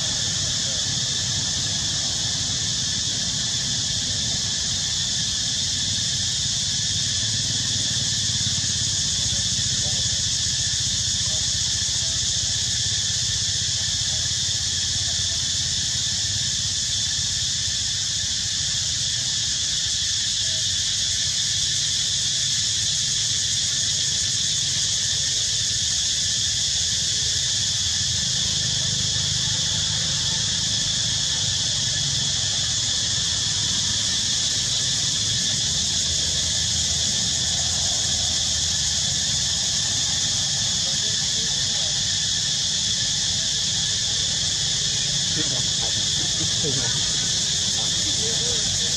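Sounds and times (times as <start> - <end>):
insects buzzing: 0.0 - 48.9.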